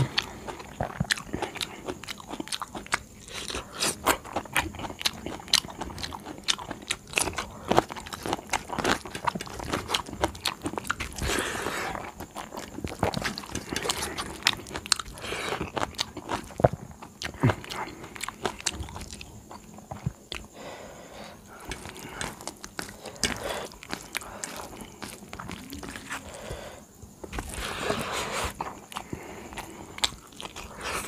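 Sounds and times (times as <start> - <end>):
chewing: 0.0 - 31.0.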